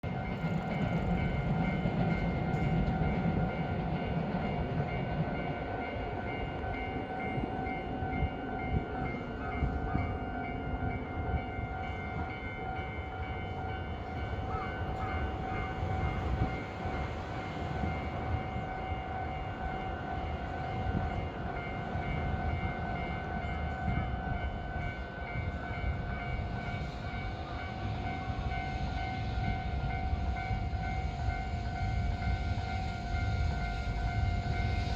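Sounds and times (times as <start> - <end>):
level crossing warning bell: 0.0 - 34.9
train rail rumble: 0.0 - 34.9.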